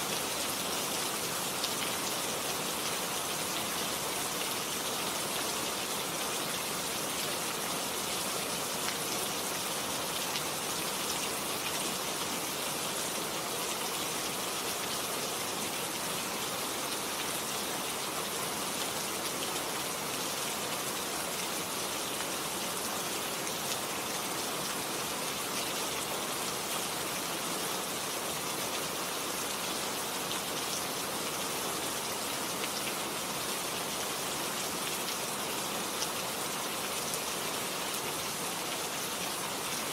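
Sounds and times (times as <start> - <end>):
rain falling on plants: 0.0 - 39.9.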